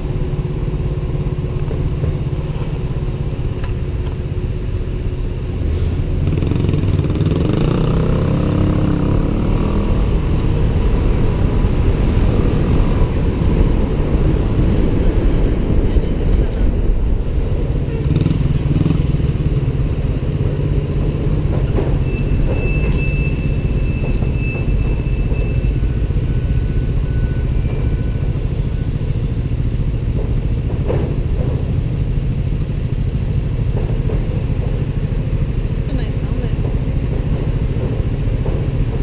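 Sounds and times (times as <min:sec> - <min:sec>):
motorcycle engines idling: 0:00.0 - 0:07.0, 0:08.2 - 0:39.0.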